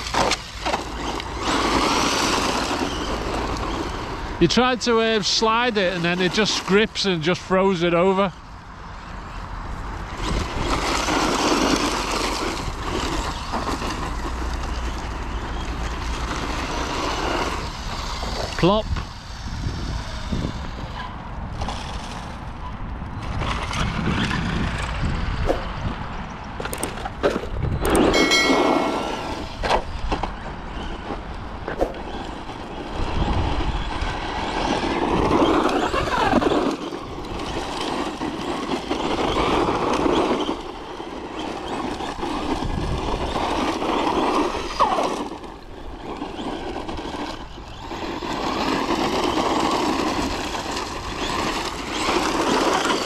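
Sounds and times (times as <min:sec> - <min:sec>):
electric motor whine: 0:00.0 - 0:06.8, 0:10.0 - 0:22.0, 0:27.8 - 0:53.0.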